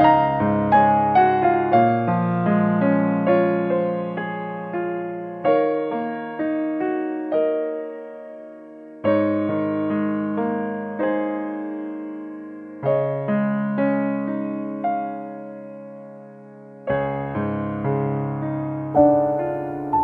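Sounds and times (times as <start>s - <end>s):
gentle slow piano piece: 0.0s - 20.0s.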